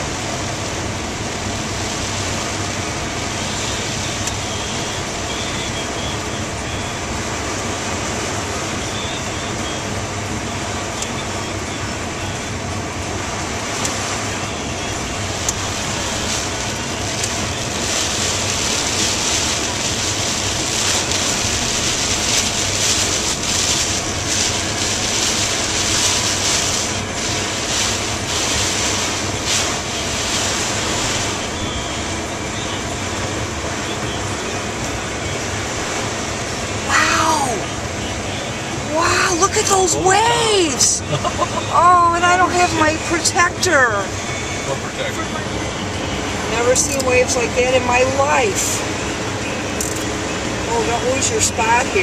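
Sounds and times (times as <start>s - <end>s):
car road noise: 0.0s - 52.0s
heavy rain on car roof: 0.0s - 52.0s.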